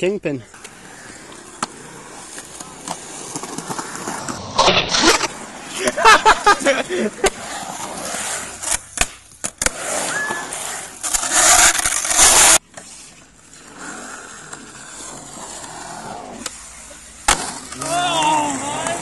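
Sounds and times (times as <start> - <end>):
skateboard wheels rolling on concrete: 0.0 - 19.0.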